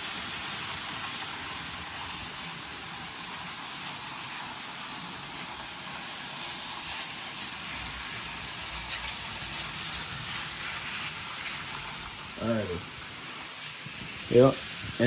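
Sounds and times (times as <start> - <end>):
model train motors whirring: 0.0 - 15.0.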